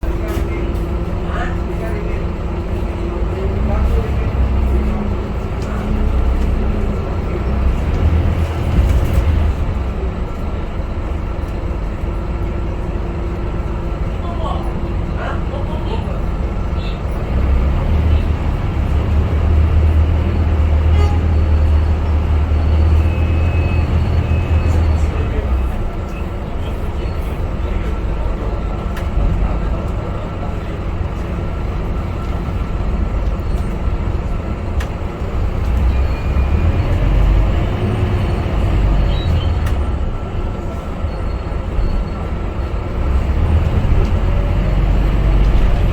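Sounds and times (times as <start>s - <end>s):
bus diesel engine rumbling: 0.0s - 45.9s
road noise: 0.0s - 45.9s.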